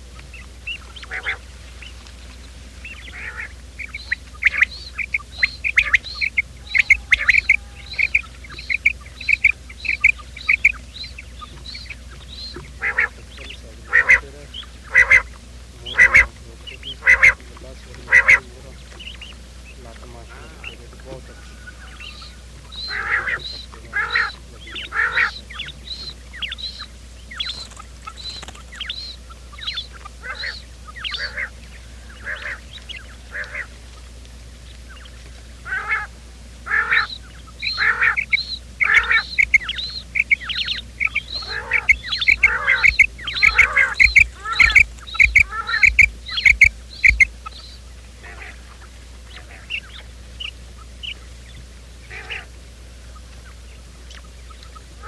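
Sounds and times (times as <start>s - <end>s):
quail calling: 0.0s - 55.0s.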